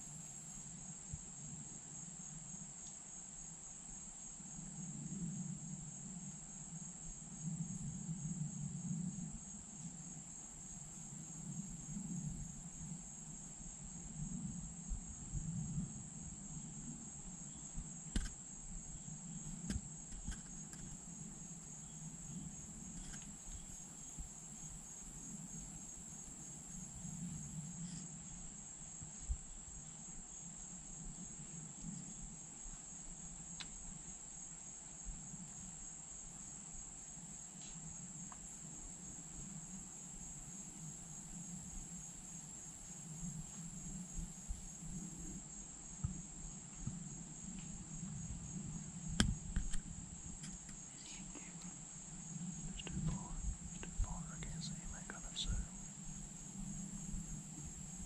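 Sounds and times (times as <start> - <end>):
insects trilling: 3.9 - 58.0.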